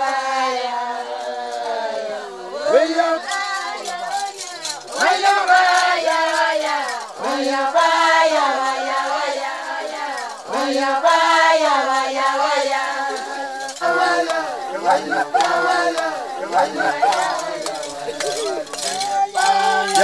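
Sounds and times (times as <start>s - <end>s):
voices chanting a ceremonial song: 0.0s - 20.0s.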